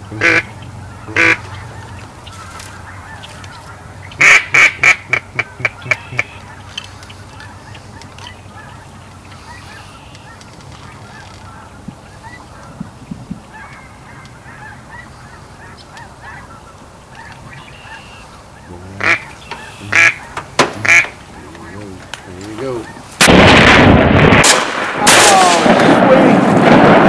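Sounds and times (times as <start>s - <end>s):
waterfowl honks and quacks: 0.0s - 23.2s.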